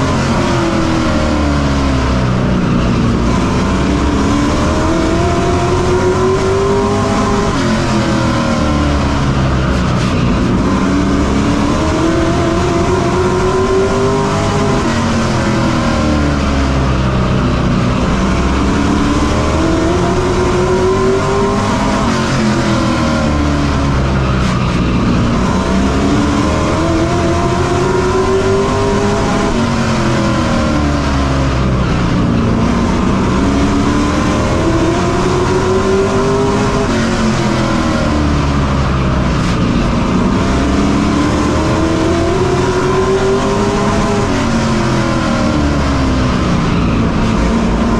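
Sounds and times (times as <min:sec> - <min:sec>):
race truck engine at speed: 0:00.0 - 0:47.9.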